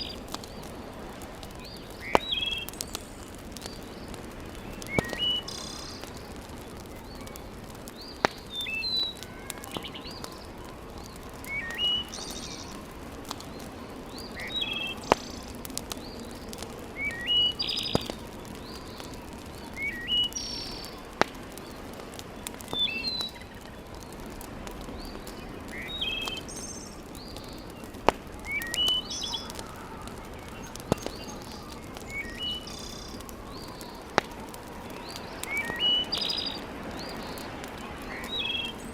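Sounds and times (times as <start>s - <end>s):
birds chirping: 0.0s - 38.9s
wood fire popping: 0.0s - 38.9s.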